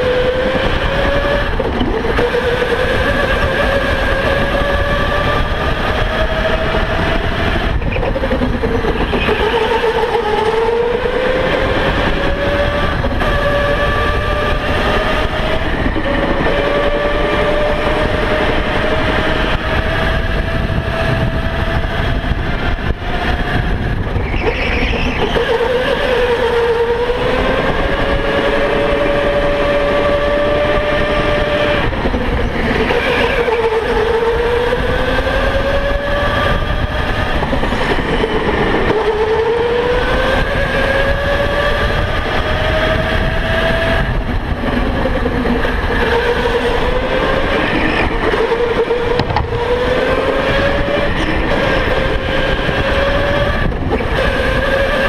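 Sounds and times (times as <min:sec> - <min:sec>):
electric go-kart motor whining: 0:00.0 - 0:55.0
steady rush of noise: 0:00.0 - 0:55.0.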